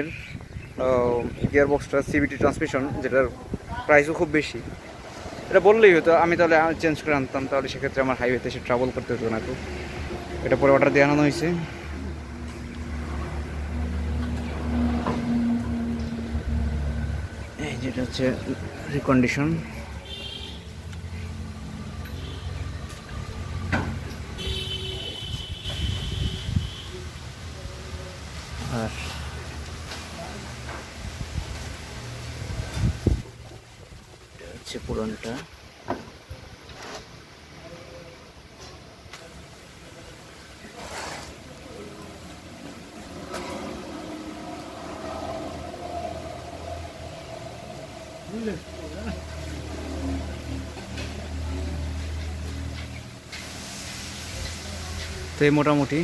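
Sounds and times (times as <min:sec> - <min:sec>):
traffic engine rumble: 0:00.0 - 0:56.0.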